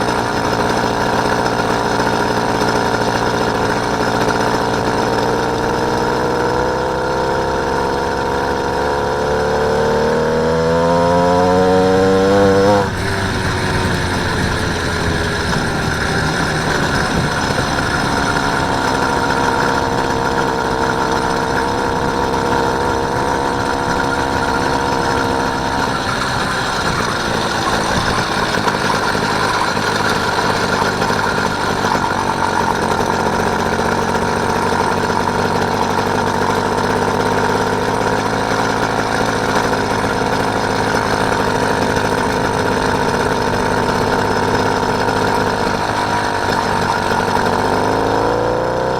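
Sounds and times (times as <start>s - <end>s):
small motorbike engine running: 0.0s - 48.9s.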